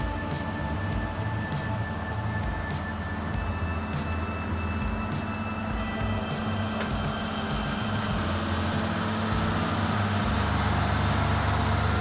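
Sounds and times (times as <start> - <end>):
heavy machinery engine droning: 0.0 - 12.0.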